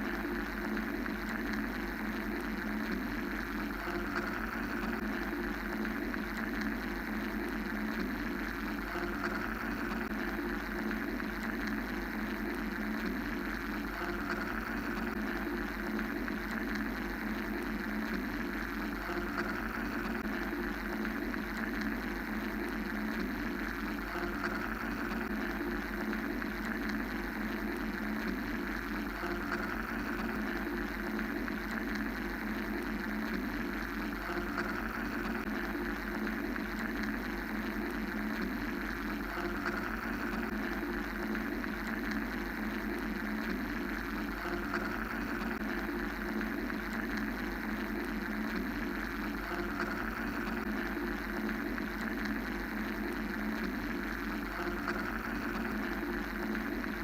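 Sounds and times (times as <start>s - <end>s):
mechanical hum: 0.0s - 57.0s.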